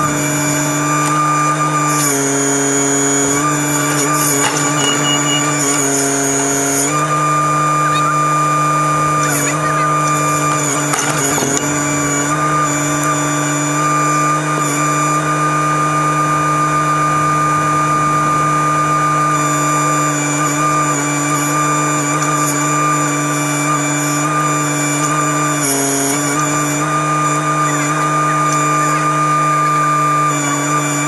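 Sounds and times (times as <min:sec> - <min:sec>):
excavator diesel engine running: 0:00.0 - 0:16.4, 0:19.3 - 0:31.0
steady high whine: 0:00.0 - 0:31.0.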